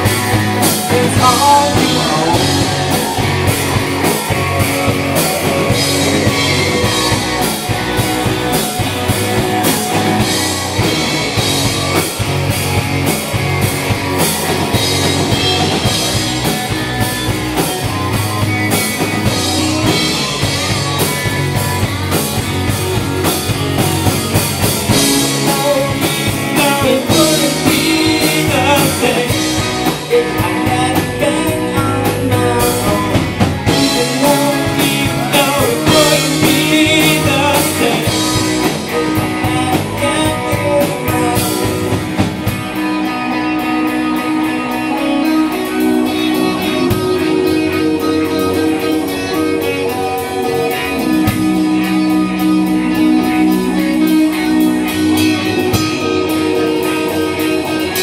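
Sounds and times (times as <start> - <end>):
drum kit steady beat: 0.0 - 58.0
guitar: 0.0 - 58.0
rock band playing live: 0.0 - 58.0.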